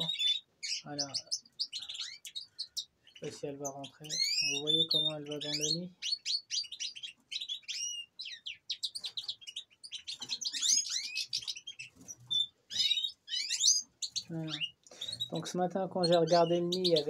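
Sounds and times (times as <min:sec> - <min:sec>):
finches singing and twittering: 0:00.0 - 0:17.0.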